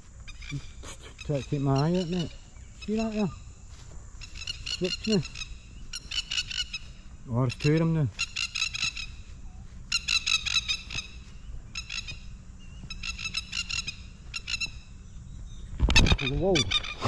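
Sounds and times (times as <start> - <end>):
bird alarm calls: 0.0 - 17.0.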